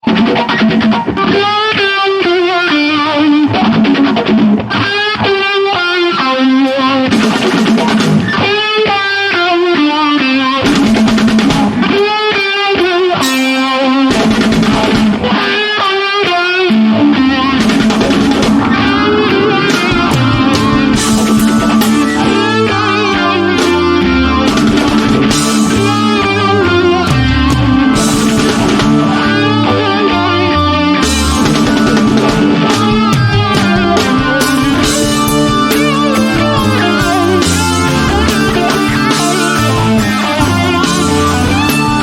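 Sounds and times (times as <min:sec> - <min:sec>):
electric guitar with bending notes: 0:00.0 - 0:42.0.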